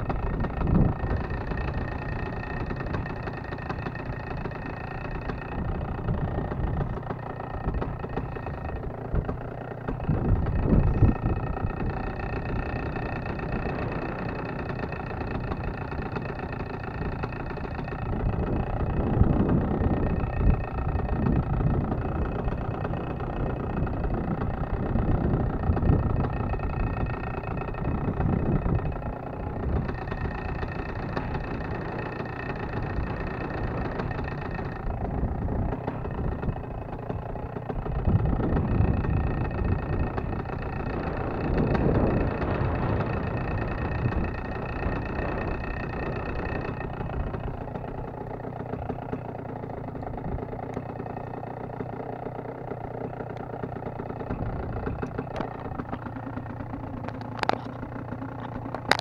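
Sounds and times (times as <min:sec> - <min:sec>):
wind rumbling on microphone: 0:00.0 - 0:52.2, 0:52.9 - 0:59.0
paramotor engine idling: 0:00.0 - 0:59.0.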